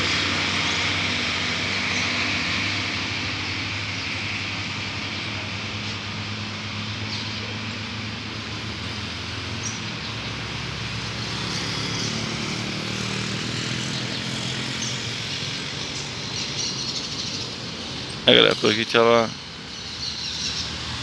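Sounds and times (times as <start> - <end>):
steady traffic haze: 0.0 - 21.0
vehicle engine passing: 0.0 - 21.0.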